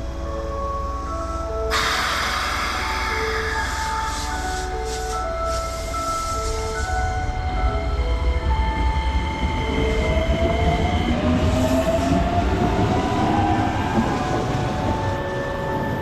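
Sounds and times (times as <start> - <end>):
train rumbling past: 0.8 - 16.0.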